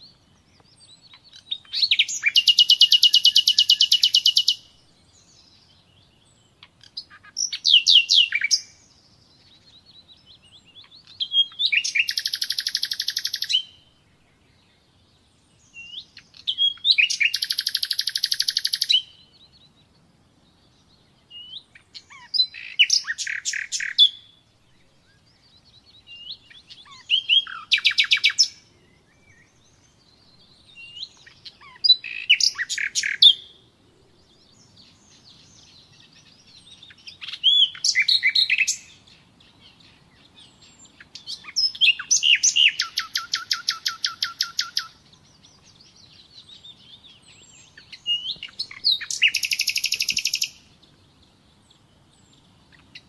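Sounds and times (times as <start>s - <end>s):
nightingale singing: 0.0s - 53.0s.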